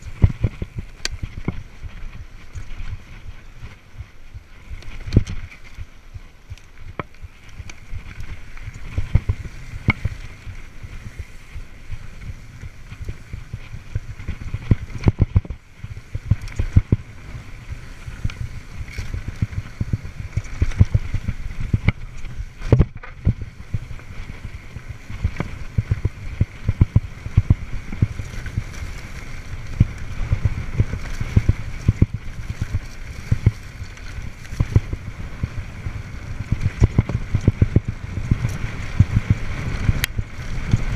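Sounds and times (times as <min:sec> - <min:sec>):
bike knocking and rattling: 0:00.0 - 0:40.9
wind on microphone: 0:00.0 - 0:40.9.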